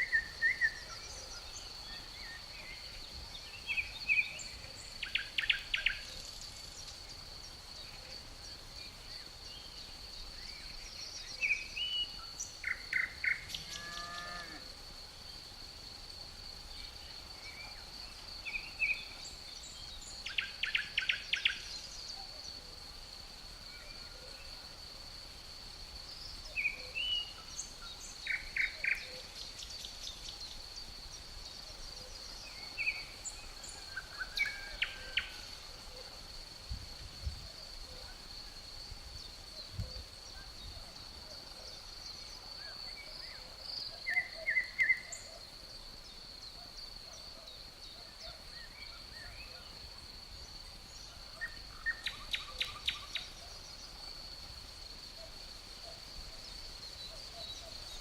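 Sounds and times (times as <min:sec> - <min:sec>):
crickets trilling: 0:00.0 - 0:58.0
songbirds singing: 0:00.0 - 0:58.0.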